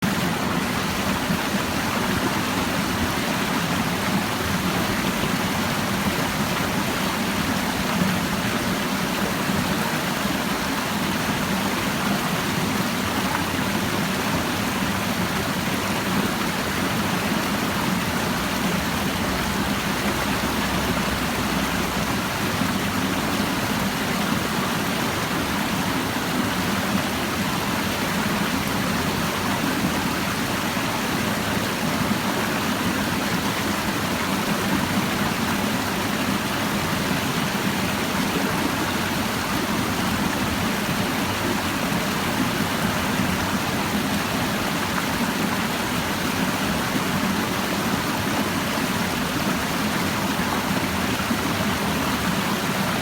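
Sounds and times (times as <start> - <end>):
stream babbling: 0.0 - 53.0.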